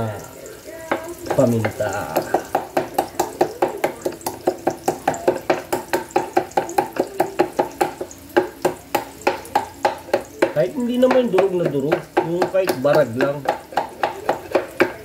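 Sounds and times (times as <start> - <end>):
wooden pestle pounding in mortar: 1.2 - 15.0.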